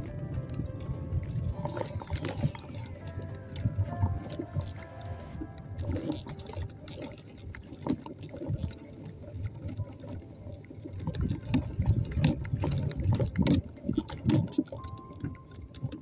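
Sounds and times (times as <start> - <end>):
bicycle rattling clicks: 0.0 - 16.0
wind buffeting microphone: 0.0 - 16.0.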